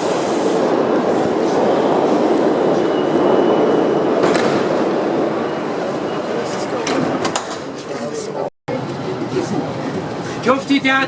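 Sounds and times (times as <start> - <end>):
train rumbling on rails: 0.0 - 10.7.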